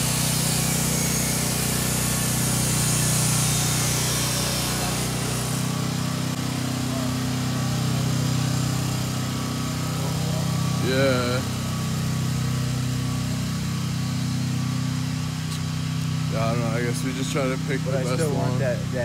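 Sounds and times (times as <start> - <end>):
motor running steadily: 0.0 - 19.0.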